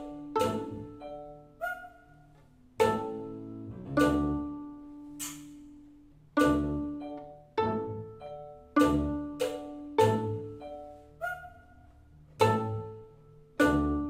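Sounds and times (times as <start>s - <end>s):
pizzicato plucked strings: 0.0s - 14.0s.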